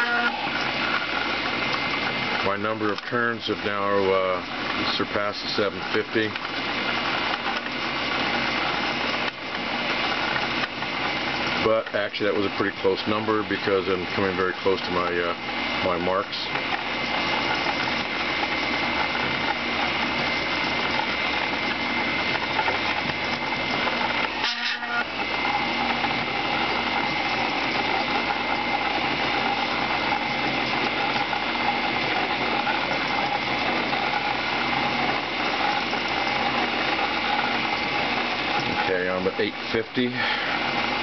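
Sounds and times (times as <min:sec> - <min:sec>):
coil winder mechanical whine: 0:00.0 - 0:41.0.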